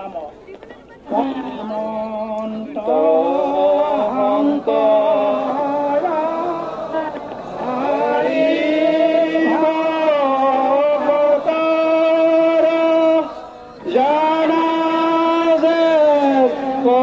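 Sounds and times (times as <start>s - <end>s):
devotional chanting: 1.0s - 17.0s.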